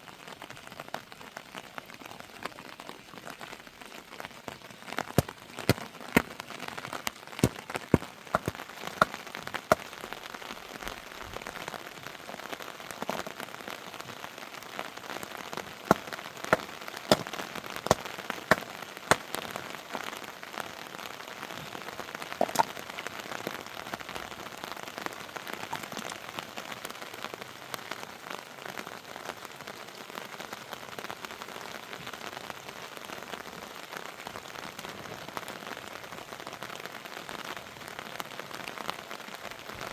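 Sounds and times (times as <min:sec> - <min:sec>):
heavy rain: 0:00.0 - 0:39.9
raindrops ticking on surface: 0:00.0 - 0:39.9.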